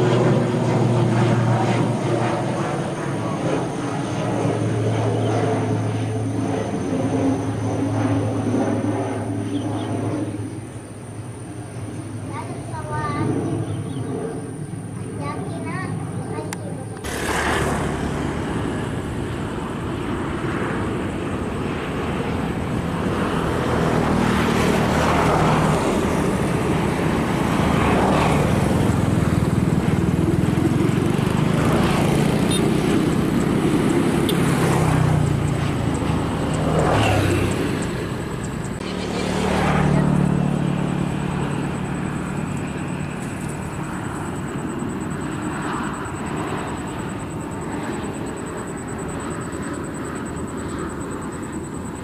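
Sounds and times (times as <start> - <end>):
jet engine rumble: 0.0 - 52.0
second airliner approaching: 0.0 - 52.0.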